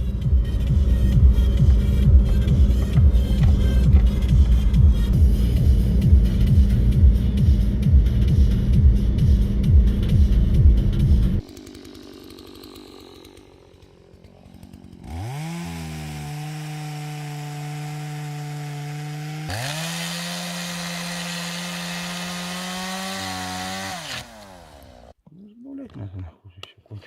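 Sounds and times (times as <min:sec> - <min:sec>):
small two-stroke engine revving: 0:00.0 - 0:25.2.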